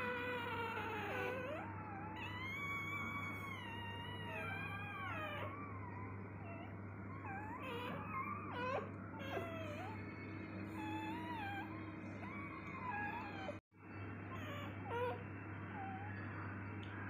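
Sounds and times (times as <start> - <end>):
low steady hum: 0.0 - 17.0
puppies whining: 0.0 - 17.0.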